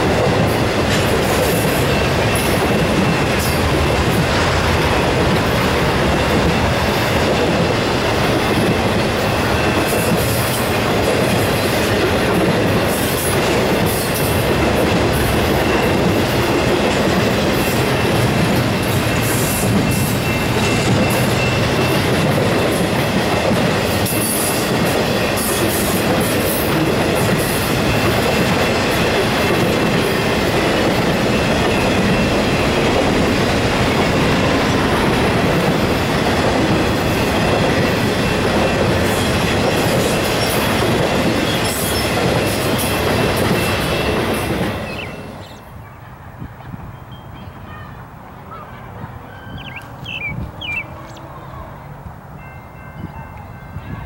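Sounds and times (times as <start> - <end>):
high tone from train wheels: 0.0 - 48.1, 49.2 - 54.0
freight train rolling past: 0.0 - 54.0.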